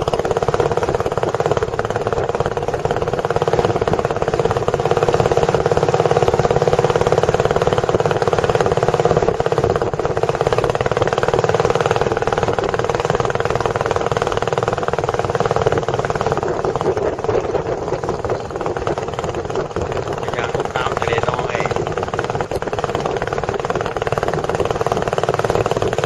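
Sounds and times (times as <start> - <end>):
boat engine putter: 0.0 - 26.0.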